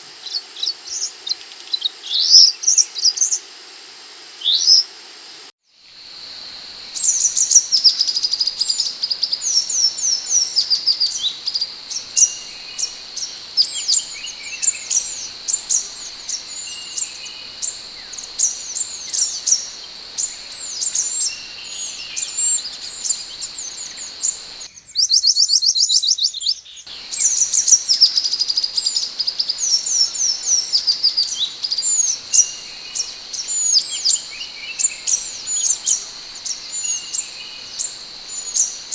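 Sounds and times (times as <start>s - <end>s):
bird chirping song: 6.3s - 38.9s.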